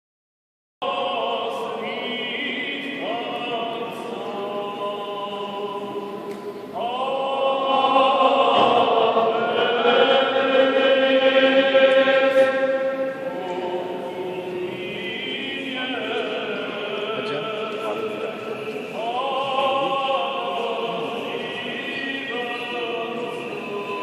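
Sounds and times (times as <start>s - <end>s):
choir chanting: 0.8s - 24.0s.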